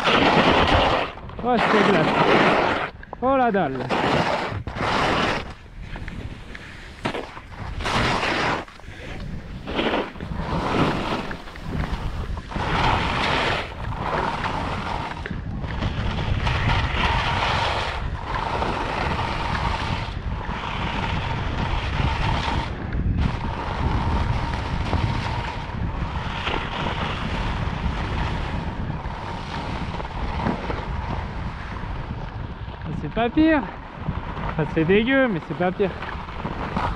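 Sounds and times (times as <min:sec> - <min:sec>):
skis scraping over icy snow: 0:00.0 - 0:36.9
wind rushing over microphone: 0:00.0 - 0:36.9.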